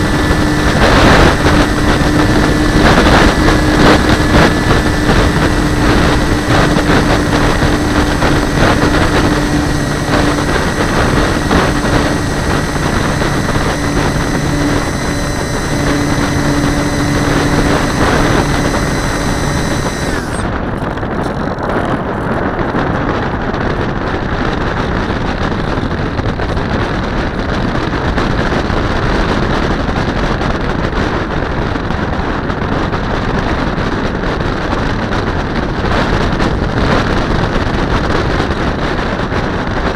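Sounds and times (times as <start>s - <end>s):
hum and high whine: 0.0s - 33.8s
wind rushing over microphone: 0.0s - 39.9s.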